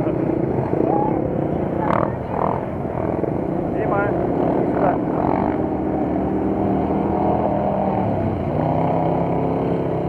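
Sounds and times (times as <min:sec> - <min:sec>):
engines running: 0:00.0 - 0:10.0.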